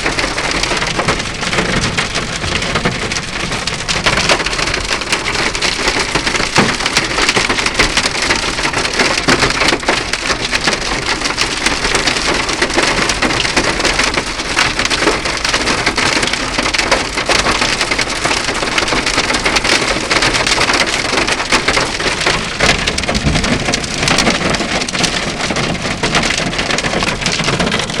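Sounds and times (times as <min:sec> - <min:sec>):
hail and rain pelting a car: 0:00.0 - 0:28.0.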